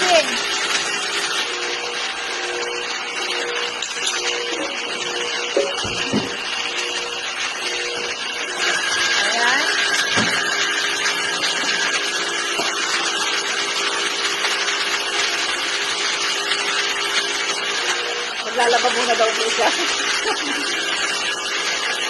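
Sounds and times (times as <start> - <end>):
pressure washer running: 0.0 - 22.0.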